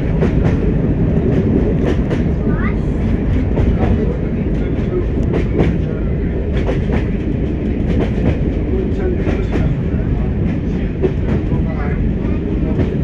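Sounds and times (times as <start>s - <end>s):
train diesel engine rumble: 0.0s - 13.0s.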